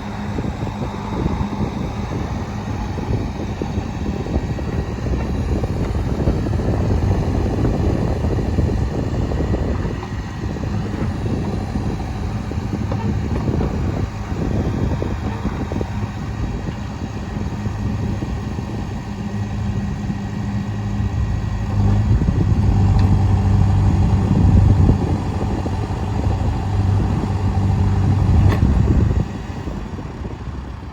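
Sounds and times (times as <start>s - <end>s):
diesel engine running under load: 0.0s - 30.9s.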